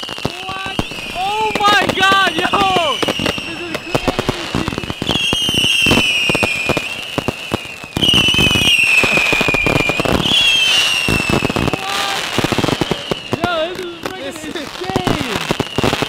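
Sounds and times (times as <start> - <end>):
high falling firework whistles: 0.0 - 13.5, 15.0 - 16.0
fireworks pops and bangs: 0.0 - 16.0.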